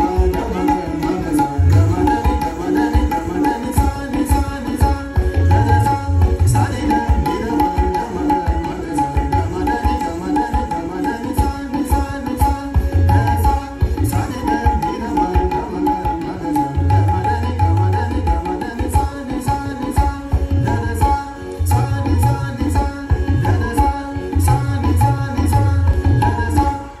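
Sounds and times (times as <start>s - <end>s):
tabla playing a brisk rhythm: 0.0s - 27.0s.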